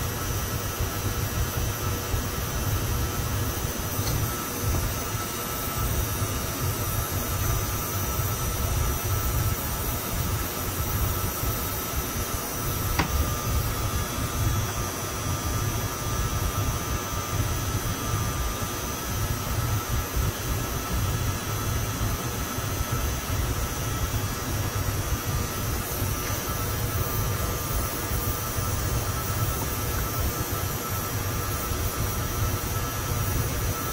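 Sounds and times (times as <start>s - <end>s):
air conditioning drone: 0.0s - 33.9s
thin steady whines: 0.0s - 33.9s.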